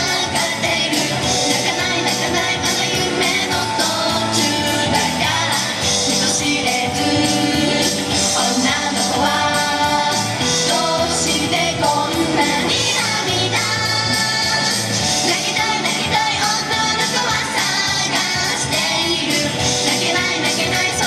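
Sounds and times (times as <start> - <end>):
pop backing music with beat: 0.0 - 21.0
woman singing into a microphone: 0.0 - 21.0.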